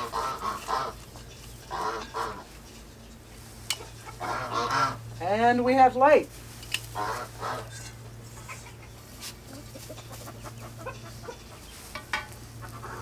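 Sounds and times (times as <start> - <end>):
chickens clucking: 0.0 - 5.1, 6.8 - 13.0
low electrical hum: 0.0 - 13.0.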